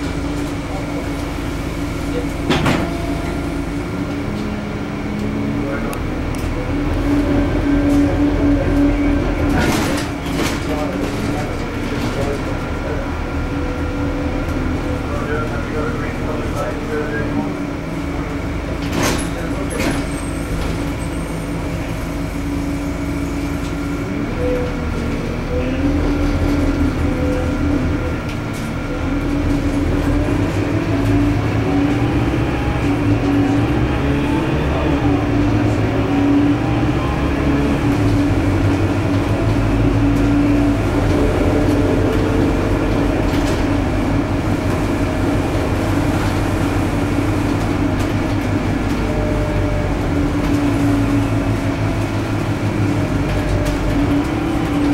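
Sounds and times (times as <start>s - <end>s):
diesel bus engine drone: 0.0s - 54.9s
road rumble: 0.0s - 54.9s.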